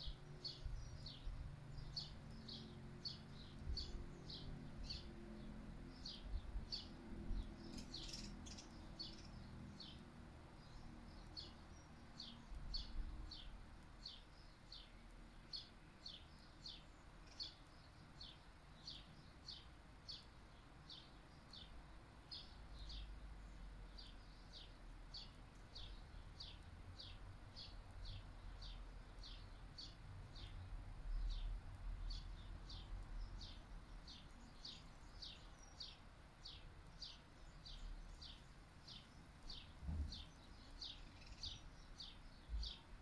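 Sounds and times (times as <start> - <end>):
bird chirping: 0.0 - 43.0.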